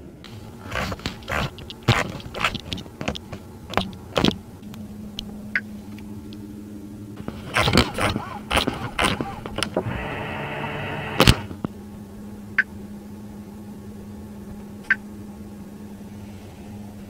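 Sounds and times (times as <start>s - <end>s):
low steady hum: 0.0s - 17.0s
steering column motor whirring: 0.0s - 17.0s.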